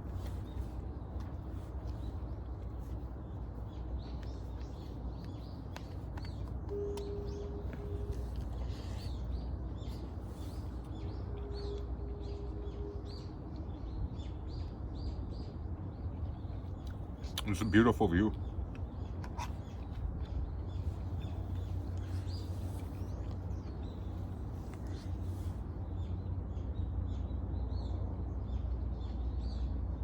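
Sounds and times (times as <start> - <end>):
birds chirping: 0.0 - 29.7
low steady rumble: 0.0 - 30.0.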